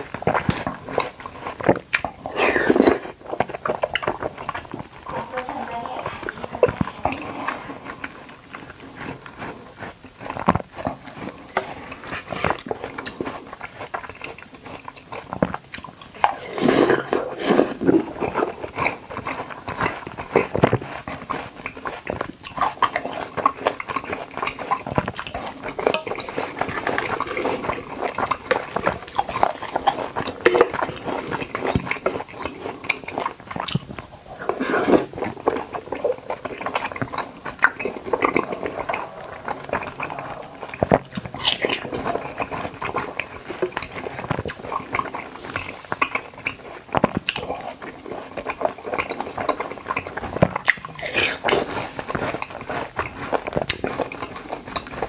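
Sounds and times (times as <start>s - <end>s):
wet chewing and biting: 0.0s - 55.0s.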